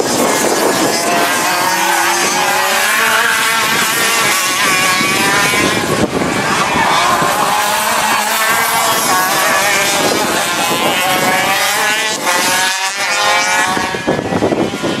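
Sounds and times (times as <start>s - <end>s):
racing kart engines at high revs: 0.0s - 15.0s.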